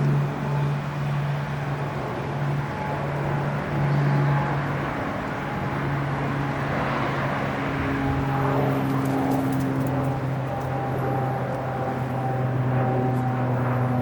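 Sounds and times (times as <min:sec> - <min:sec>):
low mechanical hum: 0:00.0 - 0:14.0
outdoor background noise: 0:00.0 - 0:14.0.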